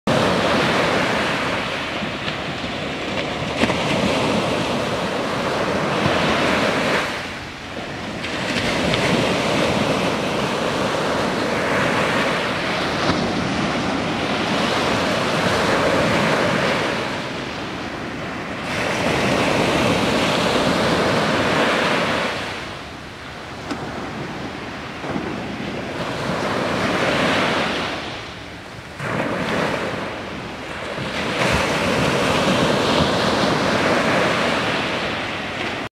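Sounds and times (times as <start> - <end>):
waves breaking on beach: 0.1 - 35.9.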